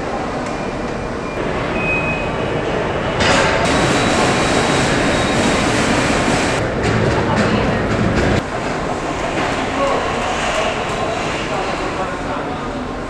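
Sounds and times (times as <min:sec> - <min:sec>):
machinery hum and rumble: 0:00.0 - 0:13.0.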